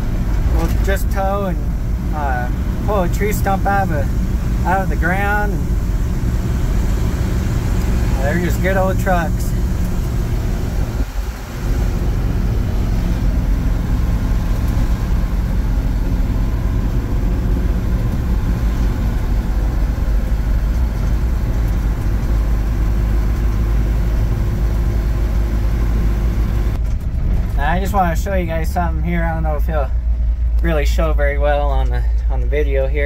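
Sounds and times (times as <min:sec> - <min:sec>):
road noise: 0:00.0 - 0:33.0
truck engine running: 0:00.0 - 0:33.0.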